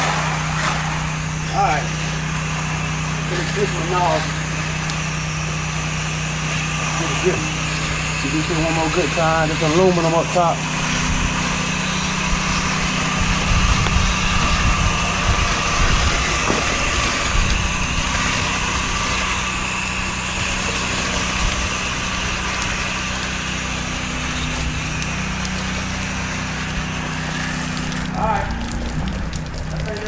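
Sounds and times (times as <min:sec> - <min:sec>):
pressure washer engine running: 0:00.0 - 0:30.0
water spray hissing: 0:00.0 - 0:30.0.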